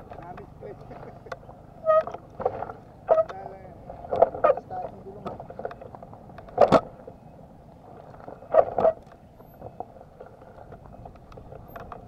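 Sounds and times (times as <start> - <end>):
tyres rumbling on gravel: 0.0 - 12.0.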